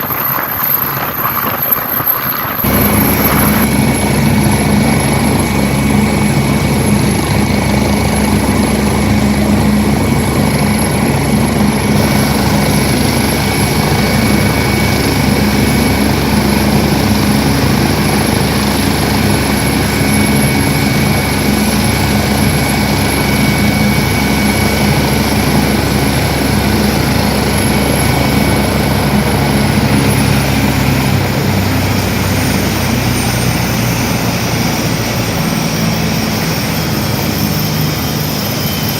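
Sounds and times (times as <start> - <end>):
helicopter turbine and rotor: 0.0 - 38.9.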